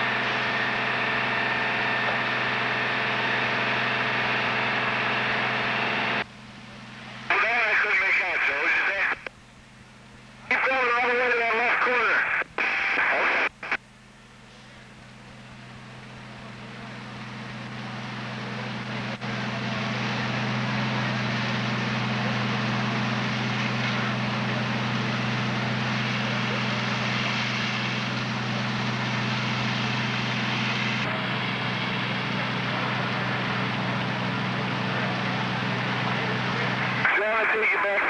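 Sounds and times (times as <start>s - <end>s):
fire engine running: 0.0s - 38.0s.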